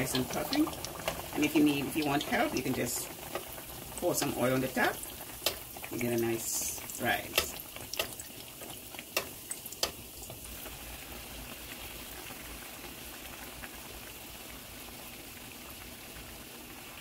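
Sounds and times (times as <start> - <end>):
dough sizzling in hot oil: 0.0 - 17.0.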